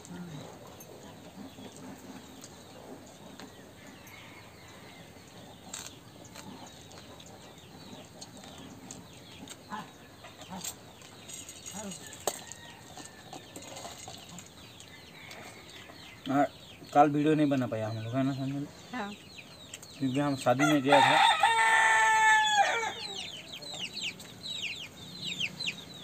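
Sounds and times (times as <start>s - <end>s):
chickens clucking: 0.0s - 4.2s, 5.0s - 26.0s
small birds chirping: 0.0s - 26.0s.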